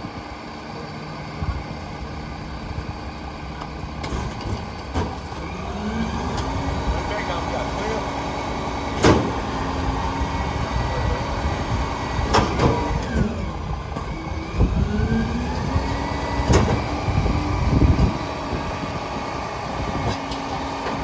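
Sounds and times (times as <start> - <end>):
garbage truck engine running: 0.0 - 21.0.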